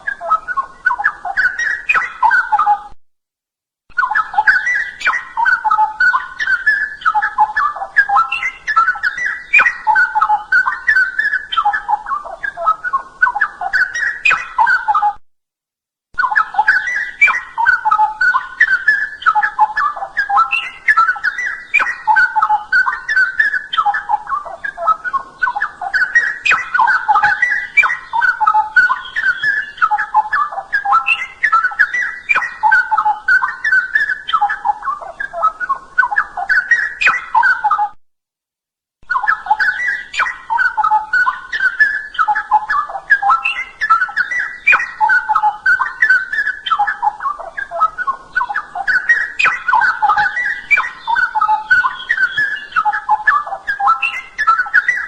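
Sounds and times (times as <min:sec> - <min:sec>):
bird warbling song: 0:00.0 - 0:02.9, 0:03.9 - 0:15.2, 0:16.2 - 0:37.9, 0:39.0 - 0:55.0.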